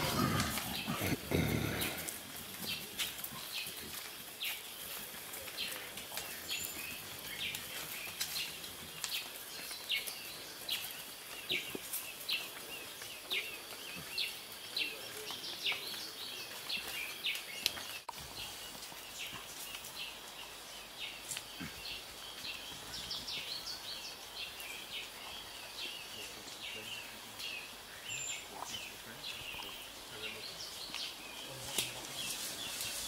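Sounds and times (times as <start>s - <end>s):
outdoor background: 0.0s - 33.0s.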